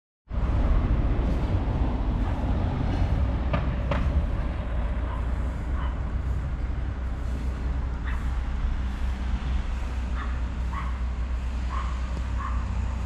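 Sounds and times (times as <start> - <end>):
street ambience rumble and hiss: 0.3 - 13.0.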